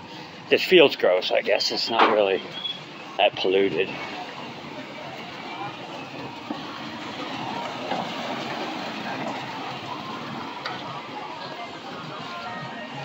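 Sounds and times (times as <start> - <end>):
faint voices: 0.0 - 13.0
street noise: 0.0 - 13.0.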